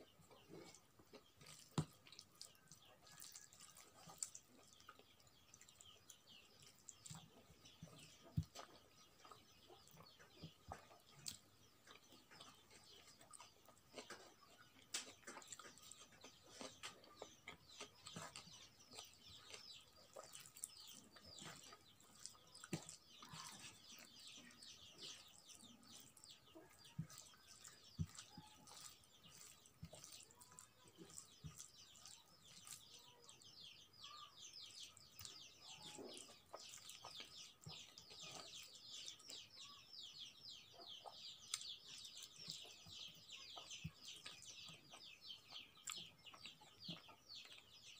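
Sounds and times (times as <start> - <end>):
chewing: 0.0 - 47.9
fingers squishing rice and curry: 0.0 - 47.9.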